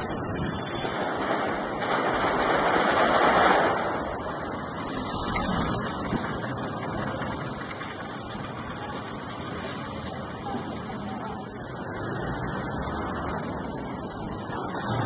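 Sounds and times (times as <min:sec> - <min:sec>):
rushing street noise: 0:00.0 - 0:15.0.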